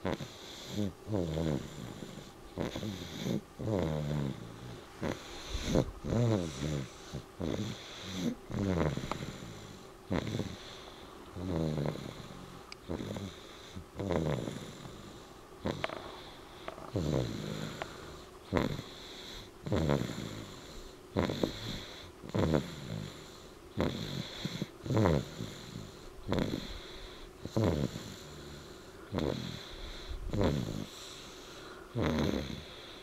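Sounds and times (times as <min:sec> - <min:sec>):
person snoring: 0:00.0 - 0:33.0.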